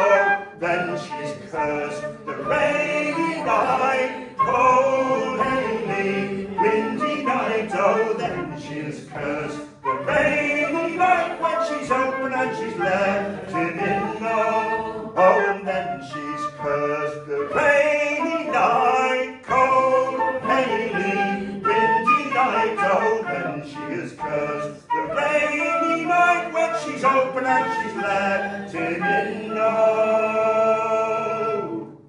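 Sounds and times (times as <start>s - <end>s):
two men singing in harmony: 0.0s - 32.0s.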